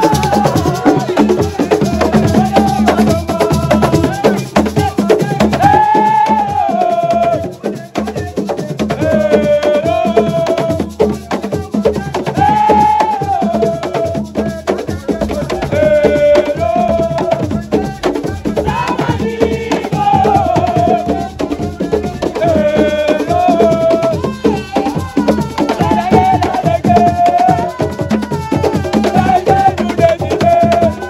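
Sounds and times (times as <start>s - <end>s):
clacking percussion: 0.0s - 31.0s
fast drumming: 0.0s - 31.0s
person singing: 0.0s - 31.0s.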